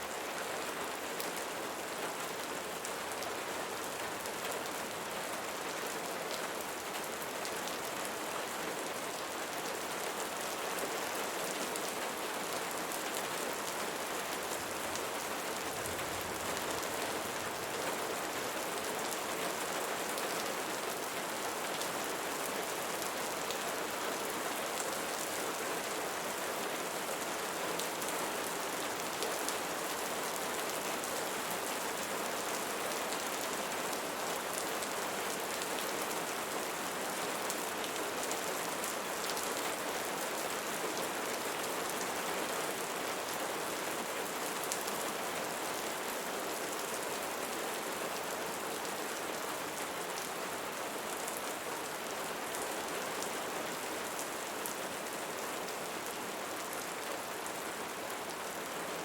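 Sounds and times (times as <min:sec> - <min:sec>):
steady rainfall: 0:00.0 - 0:59.0
patter of raindrops: 0:00.1 - 0:58.6.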